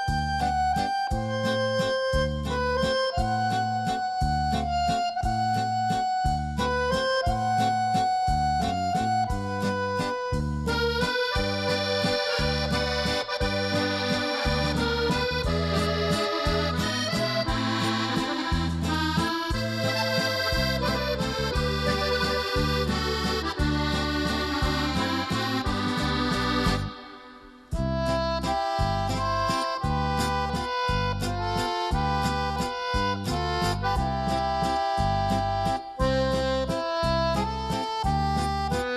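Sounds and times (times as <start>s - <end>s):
accordion music: 0.0s - 38.9s
bass and chord beat: 0.0s - 38.9s.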